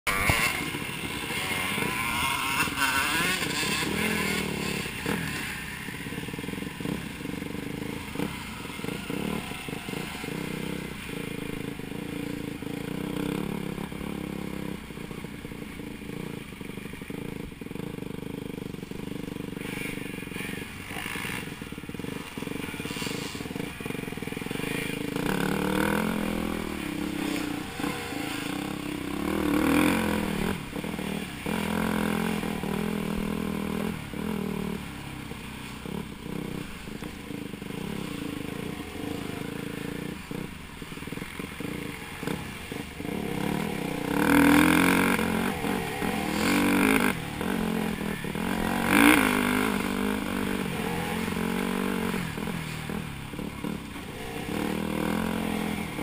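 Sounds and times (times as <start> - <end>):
dirt bike engine revving: 0.1 - 56.0.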